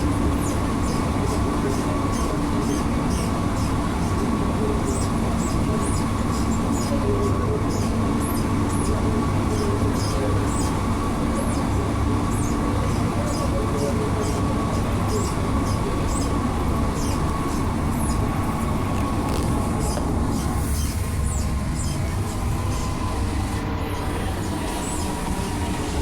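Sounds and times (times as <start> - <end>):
metro train interior rumble: 0.0 - 26.0
steady hum: 0.0 - 26.0.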